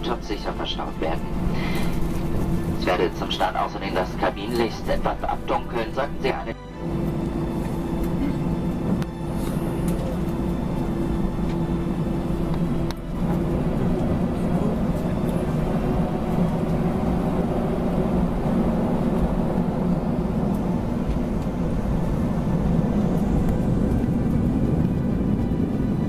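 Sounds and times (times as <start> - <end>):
jet engines humming: 0.0 - 26.0.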